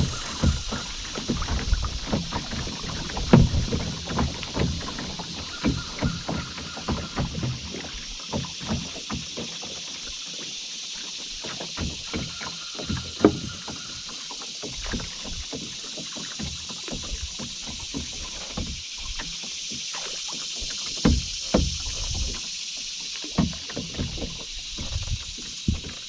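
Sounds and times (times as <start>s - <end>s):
paddle knocking against hull: 0.0s - 26.0s
paddle splashes: 0.0s - 26.0s.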